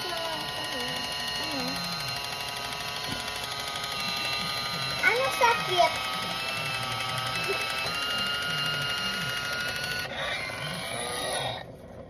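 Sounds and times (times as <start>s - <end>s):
can opener motor whine: 0.0s - 12.0s.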